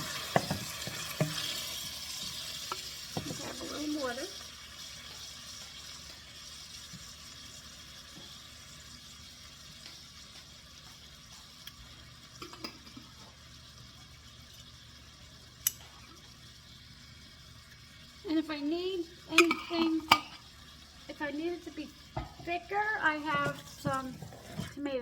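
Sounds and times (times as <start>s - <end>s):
sauce sizzling in a pan: 0.0s - 25.0s.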